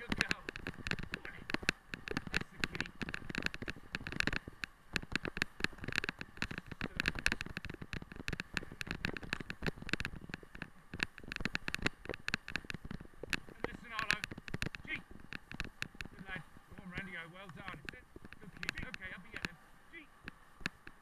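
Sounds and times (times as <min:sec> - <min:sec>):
wheeled sled rattling over dirt: 0:00.0 - 0:21.0.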